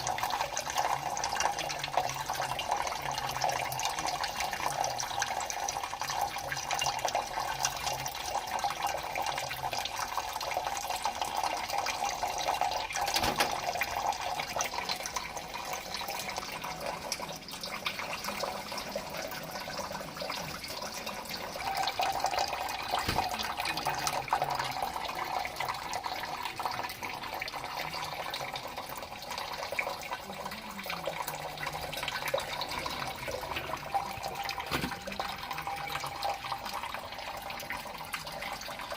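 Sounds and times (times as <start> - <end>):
water running with splashes: 0.0 - 38.9.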